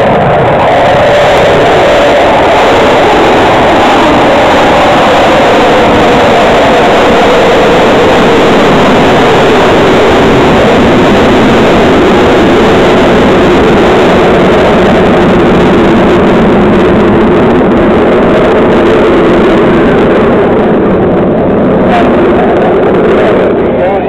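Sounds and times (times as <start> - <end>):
aircraft engine roar: 0.0 - 24.0.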